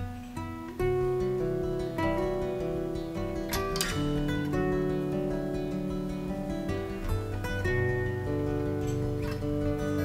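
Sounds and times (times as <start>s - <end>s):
acoustic guitar fingerpicking: 0.0s - 10.0s.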